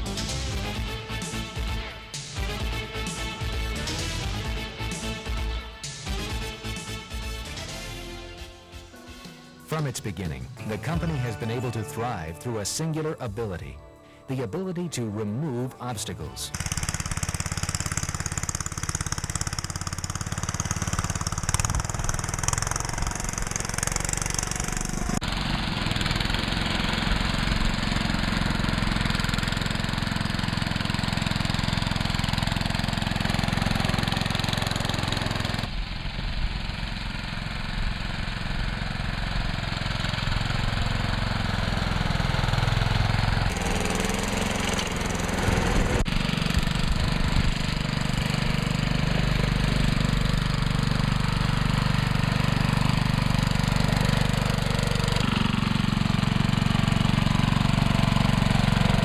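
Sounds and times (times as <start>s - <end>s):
garden tractor engine running: 0.0s - 8.1s, 9.7s - 13.8s, 14.6s - 59.0s.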